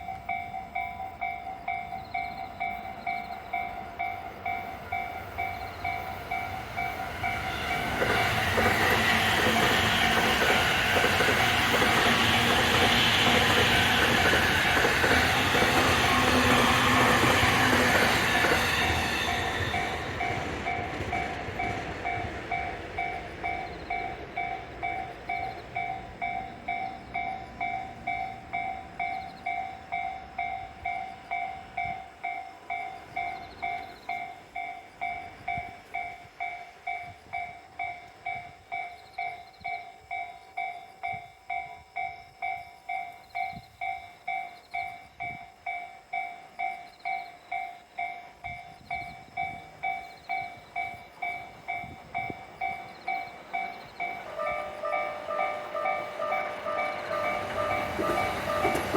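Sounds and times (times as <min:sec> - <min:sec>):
level-crossing warning bell ringing: 0:00.0 - 0:58.9
passing train rumble: 0:00.0 - 0:58.9.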